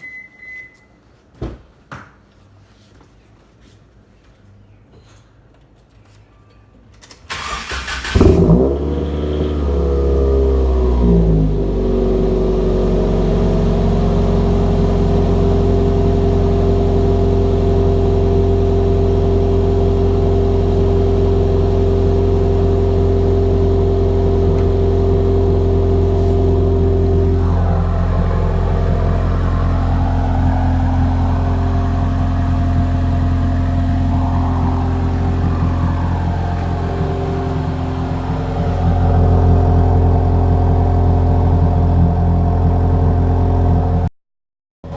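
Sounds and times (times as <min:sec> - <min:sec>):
car engine revving and idling: 0:07.3 - 0:44.1.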